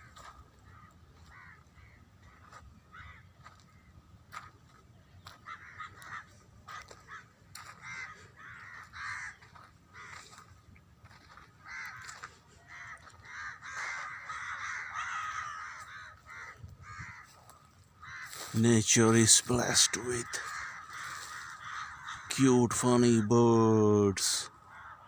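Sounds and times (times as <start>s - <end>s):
birds making harsh calls: 0.0s - 25.0s.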